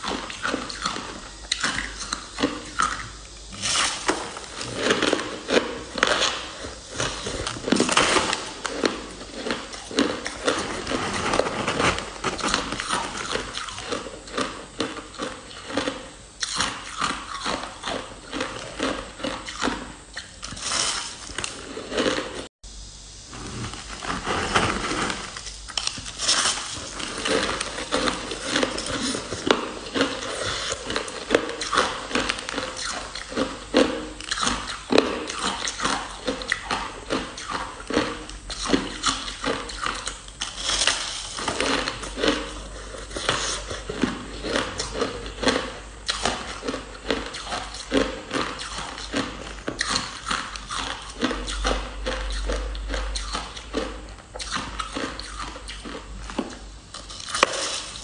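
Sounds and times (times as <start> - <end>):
shaved ice crunching while chewed: 0.0 - 22.5, 23.4 - 58.0.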